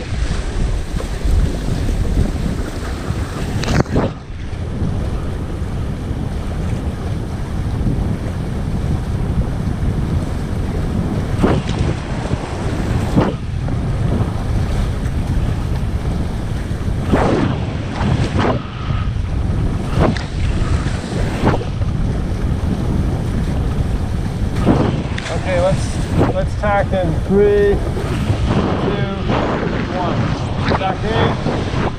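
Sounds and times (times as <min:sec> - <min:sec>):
water rushing past hulls: 0:00.0 - 0:31.9
waves splashing on hulls: 0:00.0 - 0:31.9
wind buffeting microphone: 0:00.0 - 0:31.9.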